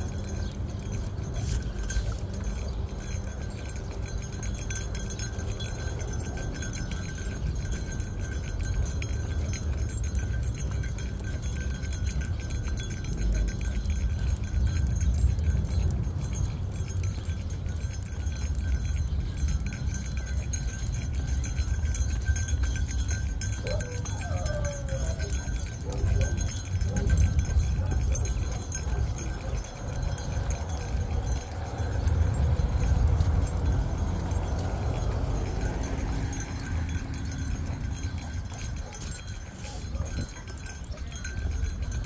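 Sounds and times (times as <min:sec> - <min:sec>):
dog collar tags jingling: 0:00.0 - 0:42.0
low rumble of movement: 0:00.0 - 0:42.0.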